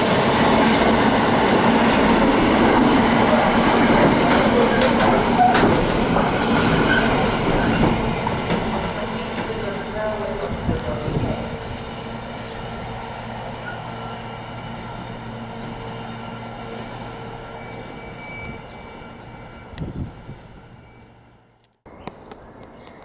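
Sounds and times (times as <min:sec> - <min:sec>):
freight train low drone: 0:00.0 - 0:22.8.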